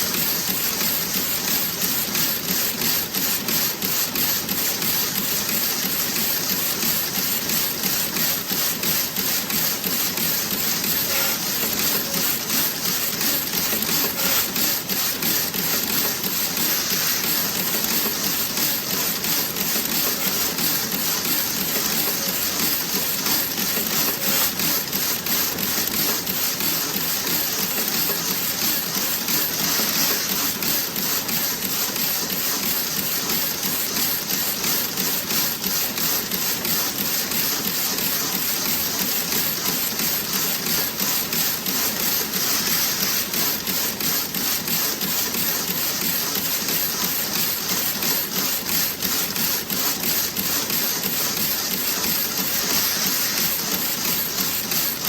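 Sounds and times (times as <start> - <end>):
knitting machine clicking: 0.0 - 55.0.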